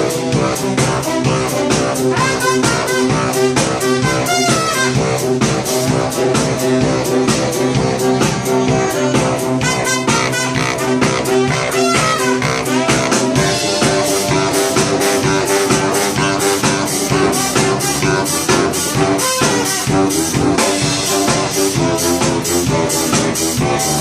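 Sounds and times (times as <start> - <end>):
brass band playing upbeat tune: 0.0 - 24.0
drum kit beat: 0.0 - 24.0
saxophone: 0.0 - 24.0.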